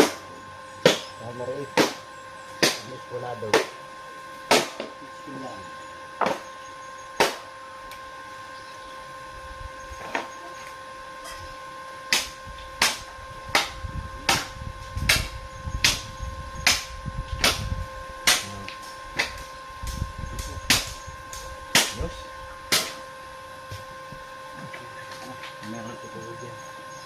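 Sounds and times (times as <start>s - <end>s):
high-pitched hum: 0.0s - 27.0s.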